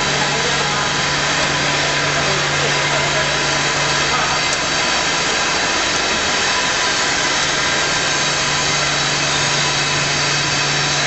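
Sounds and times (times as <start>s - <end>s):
mixing tank agitator drone: 0.0s - 11.0s.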